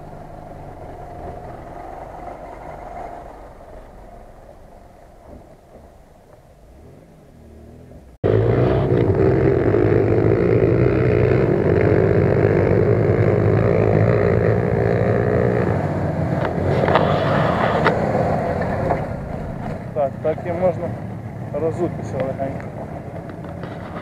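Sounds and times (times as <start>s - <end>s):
suv engine running: 0.0s - 24.0s.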